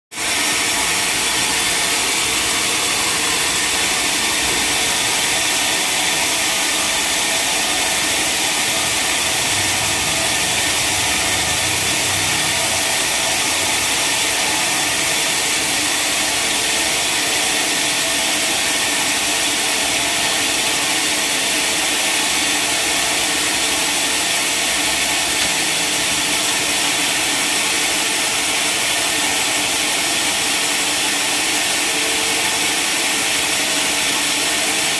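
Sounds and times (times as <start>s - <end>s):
sawmill saw cutting log: 0.2s - 34.9s.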